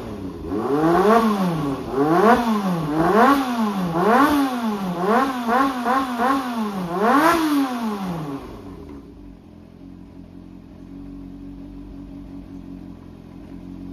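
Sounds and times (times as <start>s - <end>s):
motorcycle engine revving and idling: 0.0s - 13.9s.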